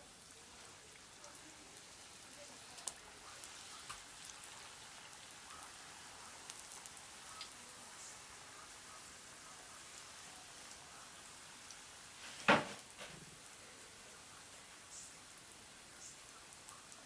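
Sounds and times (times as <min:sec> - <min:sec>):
oil crackles and pops: 0:00.0 - 0:09.1, 0:09.7 - 0:17.0
food deep-frying in oil: 0:00.0 - 0:17.0.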